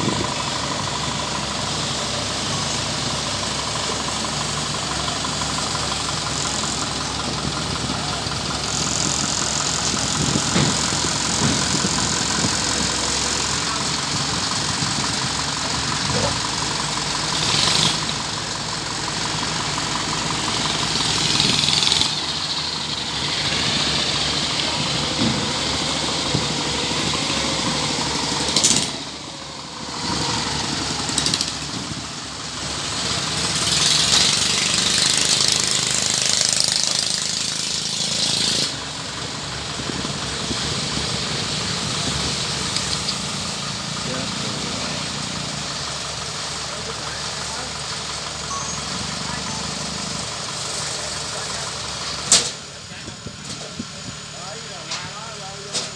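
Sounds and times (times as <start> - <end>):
combine harvester engine running: 0.0 - 55.9.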